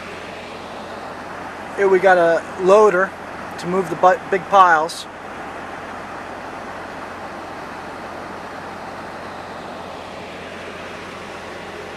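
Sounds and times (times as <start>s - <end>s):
vehicle engine running: 0.0s - 11.9s.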